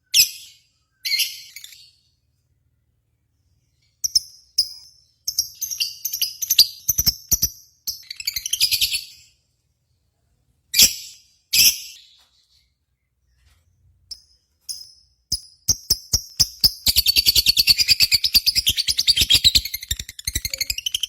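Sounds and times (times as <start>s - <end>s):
lovebird chirping: 0.0s - 2.2s, 3.6s - 9.4s, 10.8s - 21.0s.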